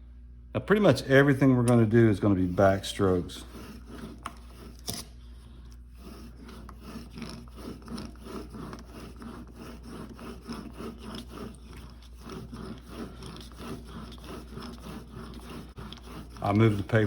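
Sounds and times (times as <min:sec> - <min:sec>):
blade scraping on cardboard: 0:01.7 - 0:17.0.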